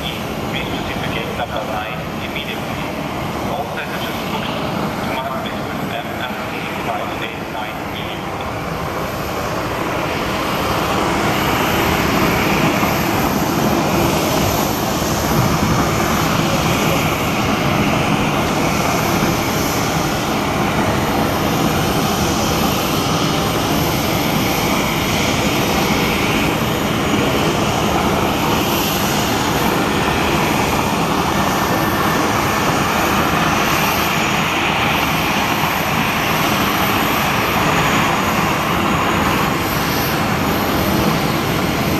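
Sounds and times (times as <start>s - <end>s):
airliner jet engines landing: 0.0s - 41.9s.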